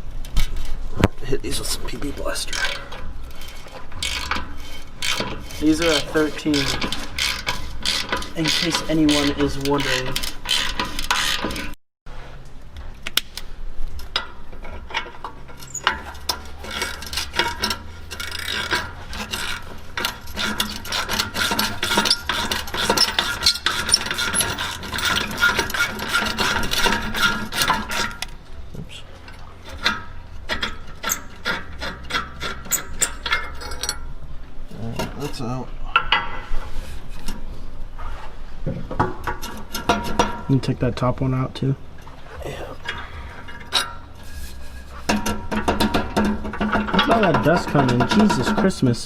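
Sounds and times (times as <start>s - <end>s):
metal rubbing and rasping: 0.4s - 11.8s, 14.1s - 41.0s, 42.3s - 49.0s.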